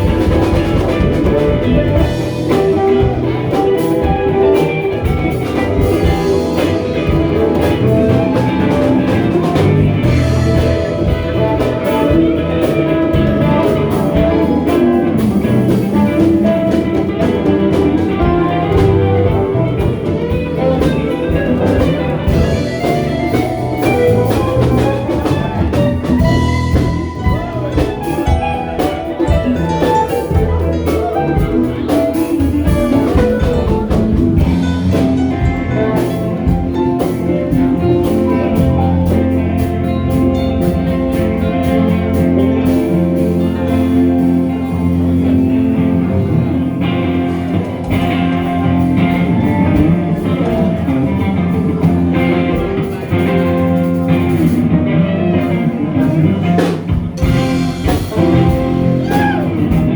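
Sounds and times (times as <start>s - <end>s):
bass: 0.0s - 59.9s
drums: 0.0s - 59.9s
guitar: 0.0s - 59.9s.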